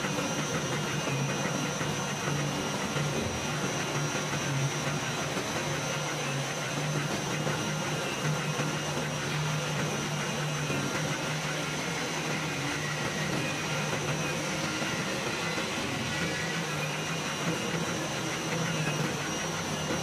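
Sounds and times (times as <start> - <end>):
cutting machine humming: 0.0 - 20.0.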